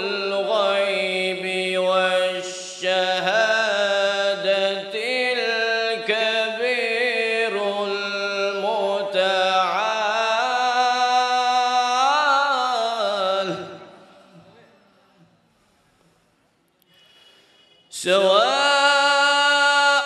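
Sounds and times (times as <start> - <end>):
man reciting melodically: 0.0 - 15.0, 17.9 - 20.0.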